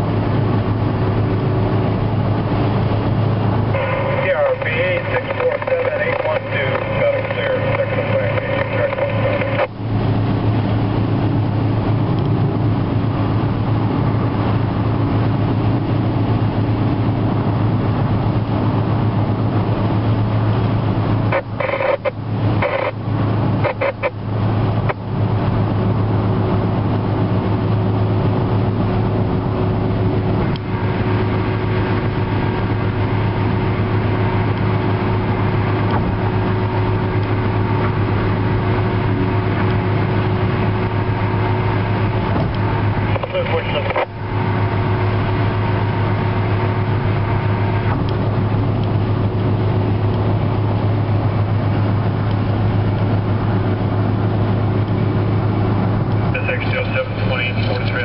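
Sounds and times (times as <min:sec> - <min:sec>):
car road and engine noise: 0:00.0 - 0:58.0
low drone: 0:00.0 - 0:58.0.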